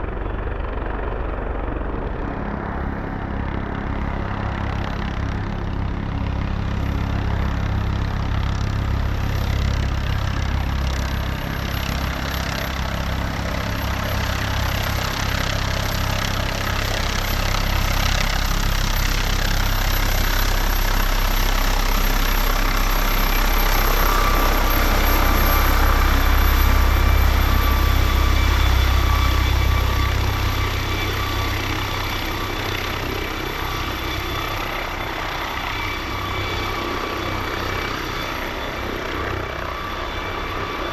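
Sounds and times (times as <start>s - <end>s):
helicopter rotor rumble: 0.0s - 40.9s
turbine whine: 0.0s - 40.9s.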